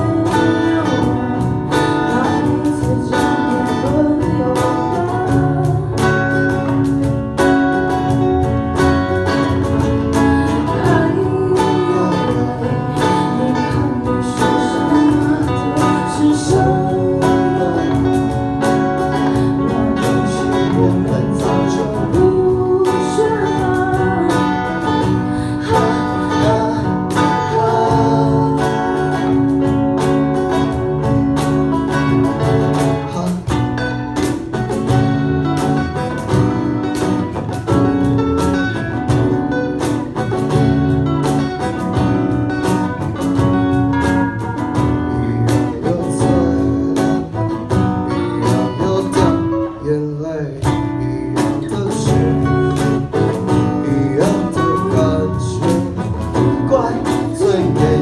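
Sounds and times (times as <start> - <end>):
band music with acoustic guitar: 0.0 - 58.0.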